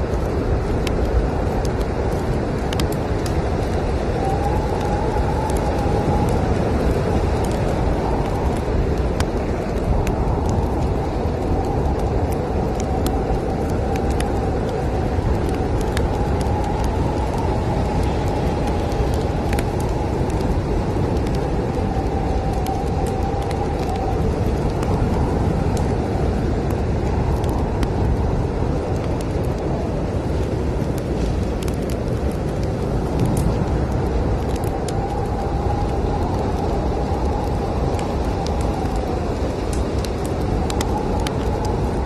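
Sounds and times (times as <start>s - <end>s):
wind rumbling and howling: 0.0s - 42.0s
wood fire crackling: 0.0s - 42.0s.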